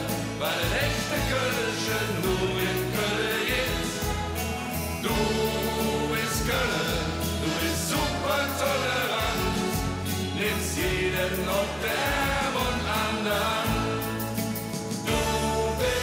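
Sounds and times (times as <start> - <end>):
man singing into a microphone: 0.0 - 4.2, 5.0 - 14.1, 15.1 - 16.0
band playing a steady beat: 0.0 - 16.0
voices singing along: 0.0 - 16.0.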